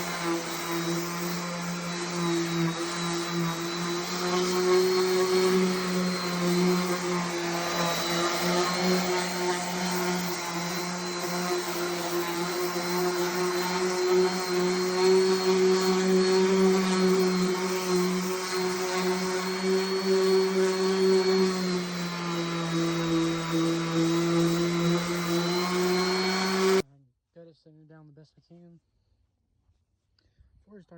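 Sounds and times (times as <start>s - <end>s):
electric sander on wood: 0.0s - 26.8s.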